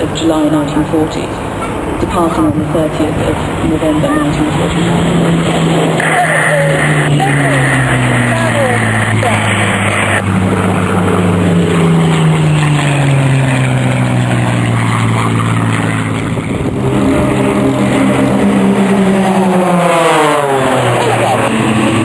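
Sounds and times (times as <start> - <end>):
fighter planes flying past: 0.0 - 22.0.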